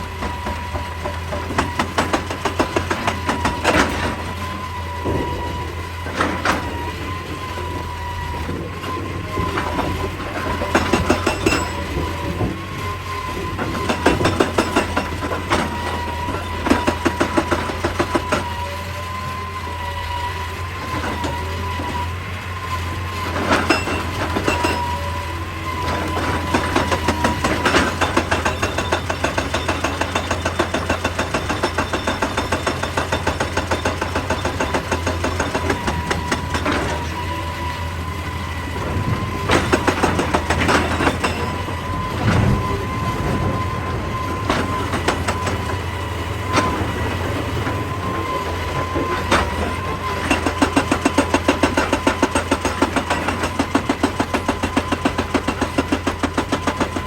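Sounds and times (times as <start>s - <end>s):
hydraulic rock breaker hammering: 0.0s - 19.9s, 20.6s - 57.0s
excavator engine running: 0.0s - 57.0s.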